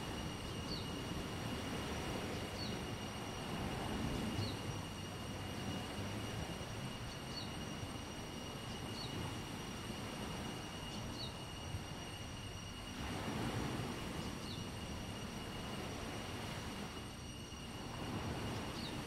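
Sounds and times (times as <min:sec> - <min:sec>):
faint steady high tone: 0:00.0 - 0:19.0
wind and surf: 0:00.0 - 0:19.0.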